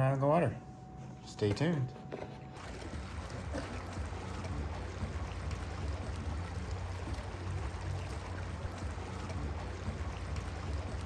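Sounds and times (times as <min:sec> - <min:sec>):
pool water splashing: 0:01.6 - 0:11.0.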